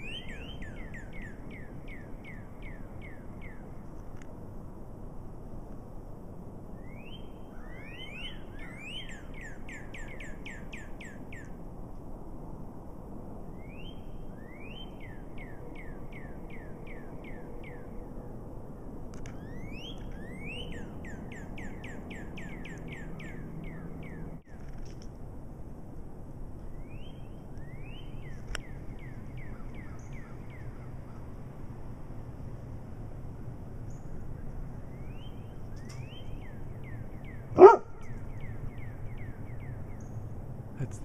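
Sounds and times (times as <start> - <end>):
songbird singing: 0.0 - 4.4, 6.6 - 11.8, 13.3 - 25.2, 26.4 - 41.0
outdoor background hiss: 0.0 - 41.0.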